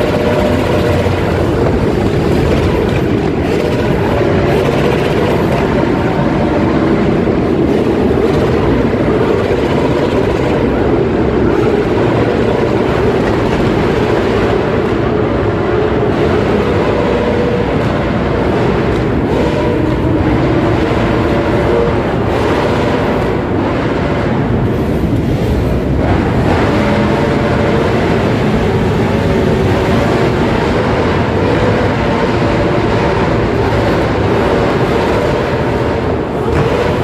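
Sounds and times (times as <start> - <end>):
motorcycle engines droning: 0.0 - 37.0
road noise: 0.0 - 37.0.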